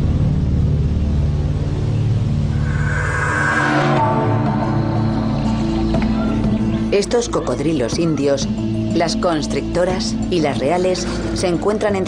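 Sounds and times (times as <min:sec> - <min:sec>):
music of slow held chords: 0:00.0 - 0:12.0.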